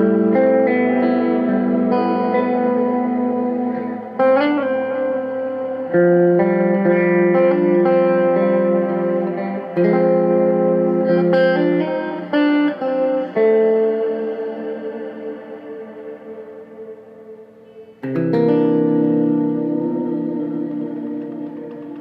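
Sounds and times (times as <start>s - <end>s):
electric guitar with long reverb: 0.0s - 22.0s.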